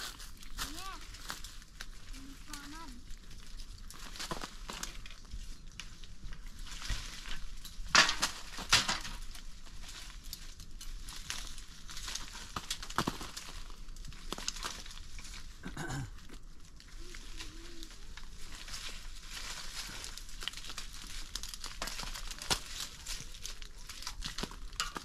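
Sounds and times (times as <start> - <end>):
crackles: 0.0 - 25.0
rustling and crinkling: 0.0 - 25.0.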